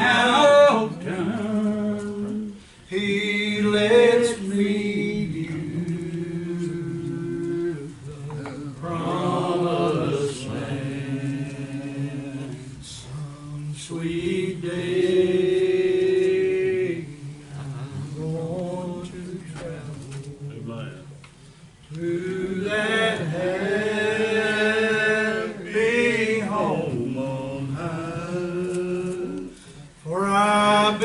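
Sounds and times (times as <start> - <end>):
person singing slow gospel song: 0.0 - 31.0.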